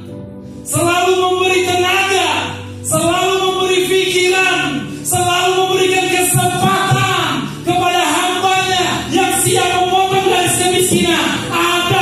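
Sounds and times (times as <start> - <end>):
music with sung vocals: 0.0 - 12.0.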